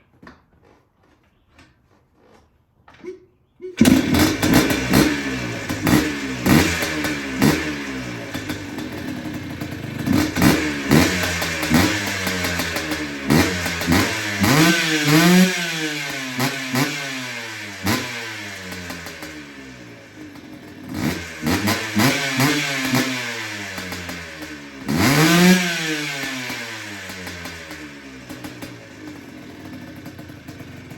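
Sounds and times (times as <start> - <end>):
two-stroke engine revving: 3.8 - 30.9.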